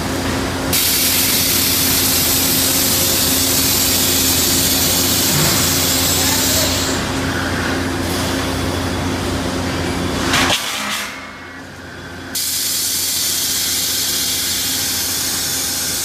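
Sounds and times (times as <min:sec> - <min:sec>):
machine hum with hiss: 0:00.0 - 0:16.0.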